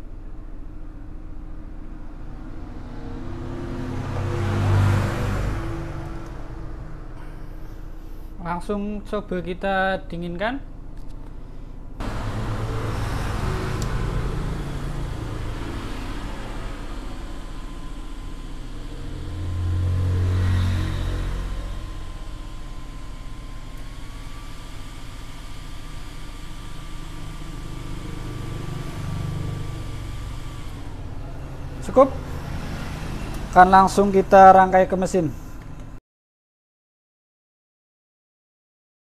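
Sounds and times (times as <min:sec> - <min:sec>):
small cooling fan whirring: 0:00.0 - 0:36.0.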